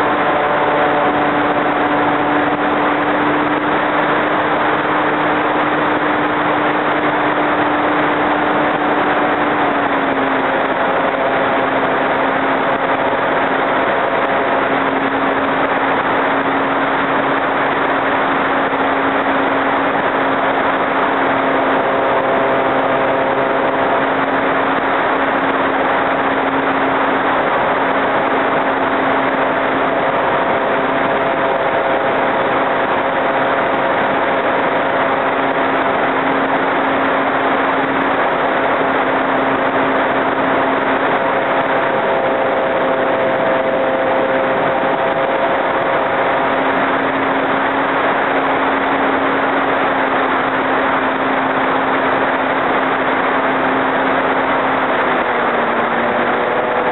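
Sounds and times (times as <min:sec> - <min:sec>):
model plane motor humming: 0:00.0 - 0:56.9
rush of air: 0:00.0 - 0:56.9.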